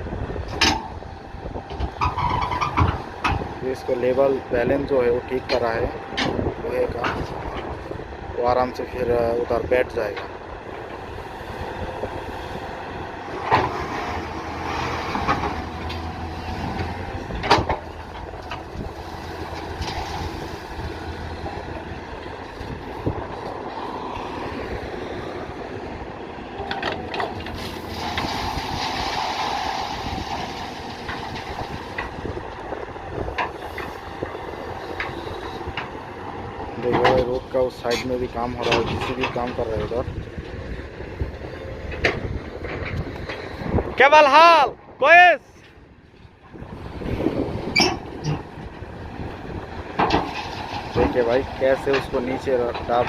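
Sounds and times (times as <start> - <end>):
diesel engine running: 0.0 - 44.0, 44.8 - 53.0.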